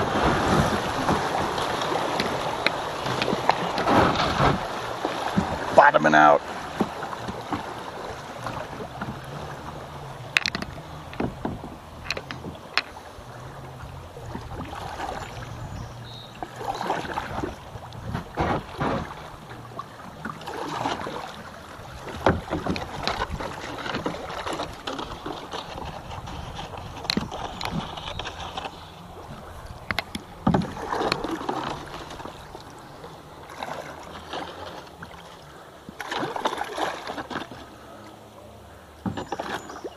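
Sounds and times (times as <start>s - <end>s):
paddle strokes splashing: 0.0s - 39.9s
rushing river water: 0.0s - 39.9s.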